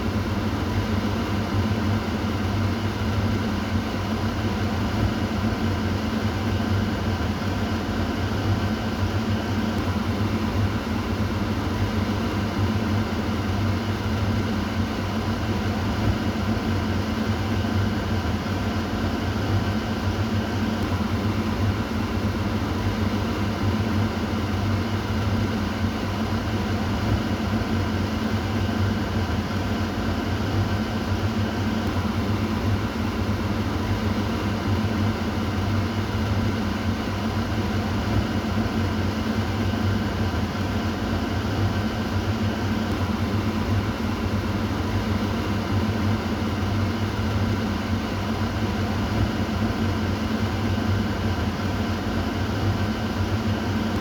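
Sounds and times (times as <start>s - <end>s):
kitchen exhaust fan running: 0.0s - 54.0s.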